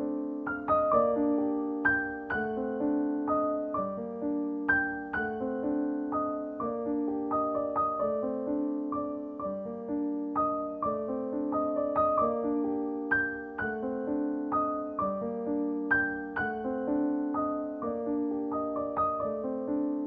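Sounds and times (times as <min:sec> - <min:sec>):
slow calm piano melody: 0:00.0 - 0:20.0.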